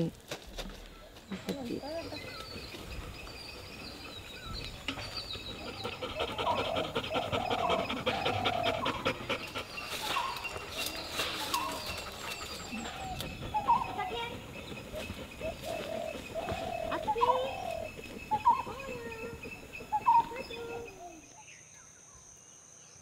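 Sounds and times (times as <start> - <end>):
dog panting: 1.8 - 21.2.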